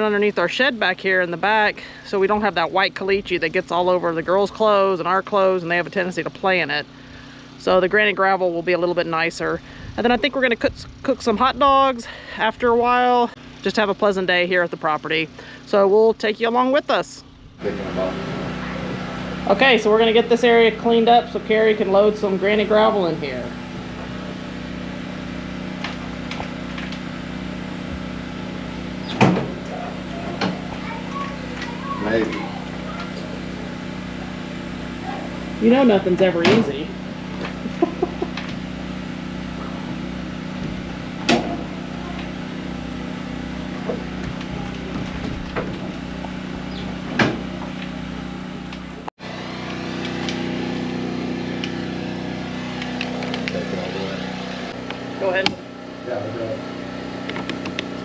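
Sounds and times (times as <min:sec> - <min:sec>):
skid steer engine idling: 0:00.0 - 0:16.2, 0:17.6 - 0:58.0.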